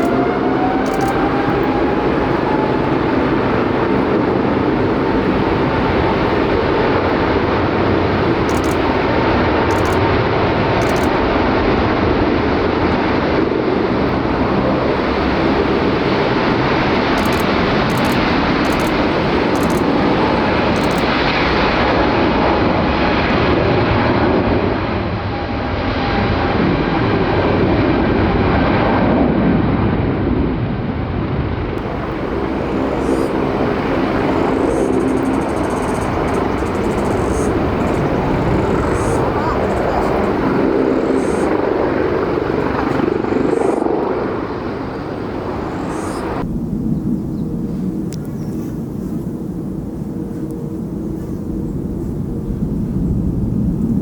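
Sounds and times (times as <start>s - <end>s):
jet engines roaring: 0.0s - 28.5s, 31.8s - 54.0s.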